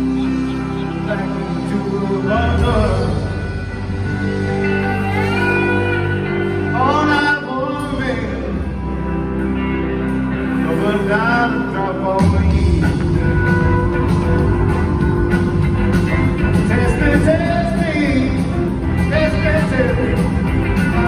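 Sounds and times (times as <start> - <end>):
lead guitar bending notes: 0.0 - 21.0
live rock band playing: 0.0 - 21.0.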